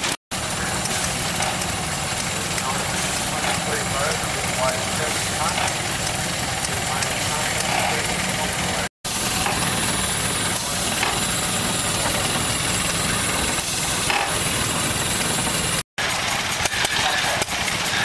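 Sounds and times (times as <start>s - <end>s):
steam engine running: 0.0s - 18.0s
steam hissing: 0.0s - 18.0s.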